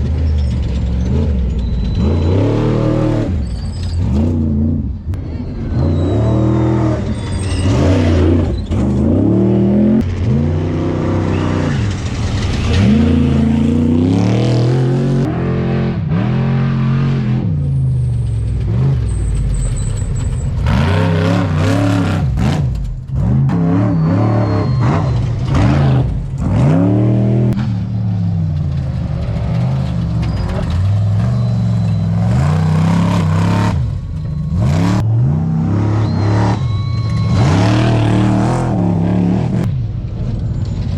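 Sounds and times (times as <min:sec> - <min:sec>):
race truck engines revving: 0:00.0 - 0:40.9.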